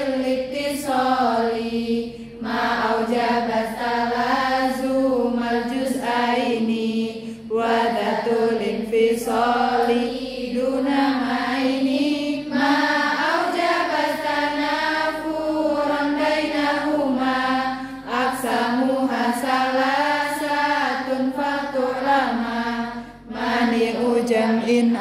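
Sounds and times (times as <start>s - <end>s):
women chanting in unison: 0.0s - 25.0s.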